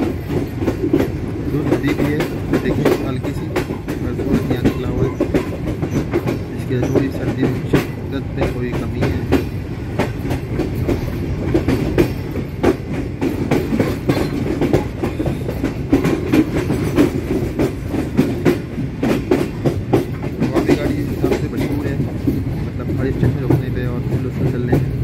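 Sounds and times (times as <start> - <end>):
train rumbling on track: 0.0 - 25.0
wheels clacking over rail joints: 0.0 - 25.0.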